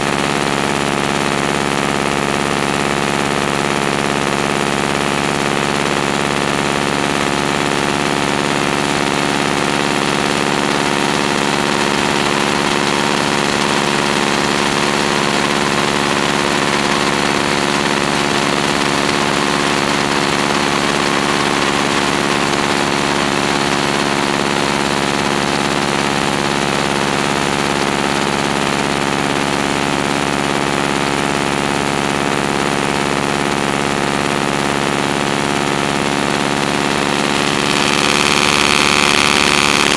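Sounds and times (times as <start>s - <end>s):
biplane engine droning: 0.0s - 39.9s.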